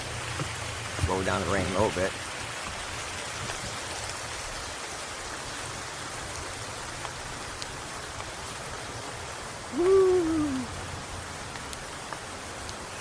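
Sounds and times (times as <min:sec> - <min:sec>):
raindrops ticking close by: 0:00.0 - 0:13.0
steady rain falling: 0:00.0 - 0:13.0.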